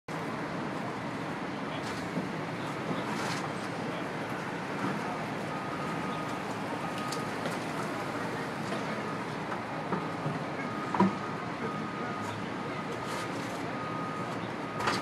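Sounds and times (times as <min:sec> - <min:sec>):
passing road traffic: 0:00.1 - 0:15.0.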